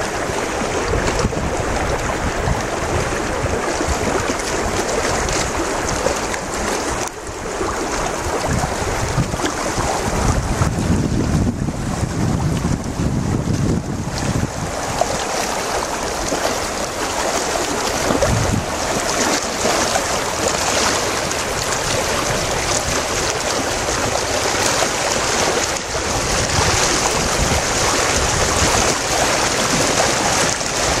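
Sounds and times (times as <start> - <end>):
river rushing over rocks: 0.0 - 31.0
wind buffeting microphone: 0.0 - 31.0.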